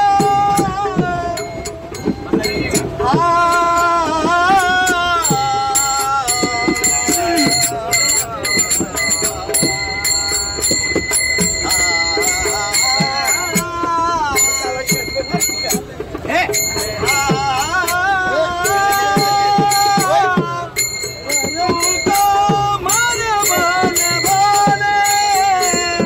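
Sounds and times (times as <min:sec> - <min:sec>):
hand cymbals struck in rhythm: 0:00.0 - 0:26.0
men singing: 0:00.0 - 0:26.0.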